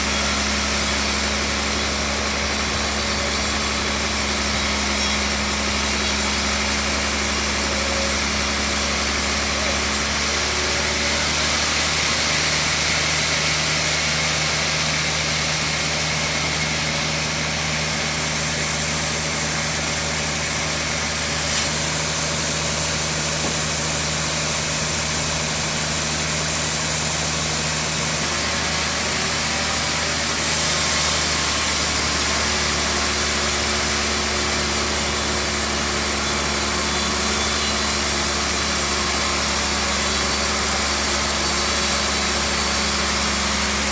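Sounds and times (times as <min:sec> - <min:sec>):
band sawmill humming and hissing: 0:00.0 - 0:43.9.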